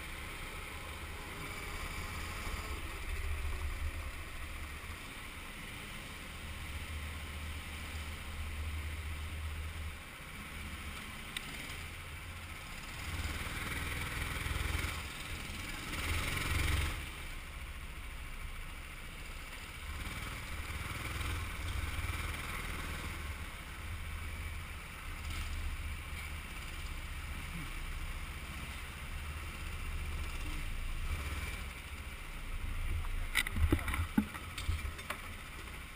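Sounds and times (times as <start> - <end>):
go-kart engine rumble: 0.0 - 35.9.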